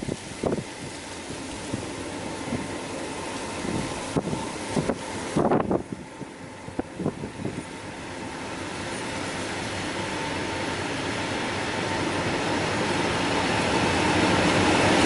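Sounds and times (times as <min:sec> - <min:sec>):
diesel locomotive approaching: 0:00.0 - 0:15.0.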